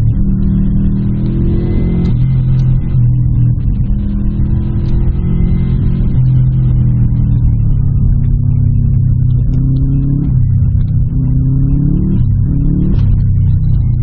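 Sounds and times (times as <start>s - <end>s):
car engine running: 0.0s - 14.0s
tyre and road noise on snow: 0.0s - 14.0s.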